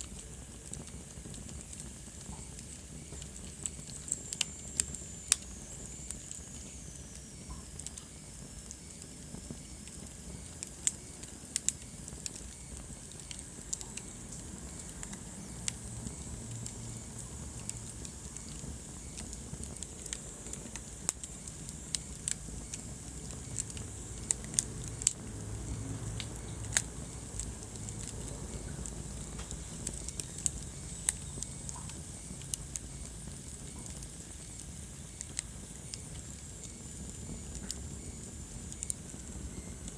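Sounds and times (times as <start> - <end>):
low rumble and hiss: 0.0 - 39.9
wood fire crackling and popping: 0.0 - 39.9.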